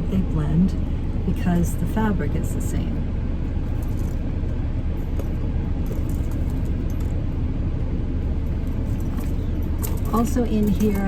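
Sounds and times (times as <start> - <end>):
car cabin engine rumble: 0.0 - 11.0.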